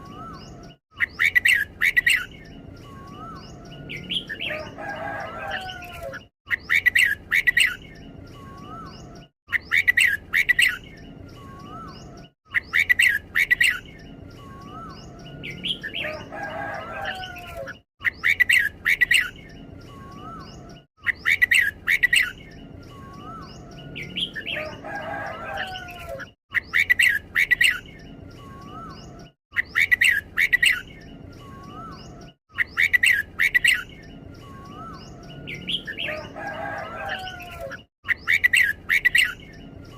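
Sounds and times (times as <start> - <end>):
bird singing bright phrase: 0.0 - 39.9.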